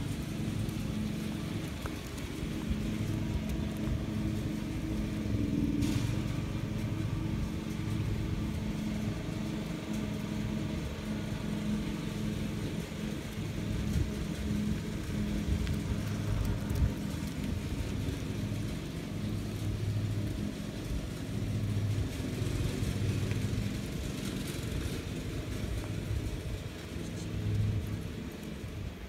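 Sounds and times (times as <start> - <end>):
faint outdoor background noise: 0.0 - 29.0
low engine hum: 0.0 - 29.0.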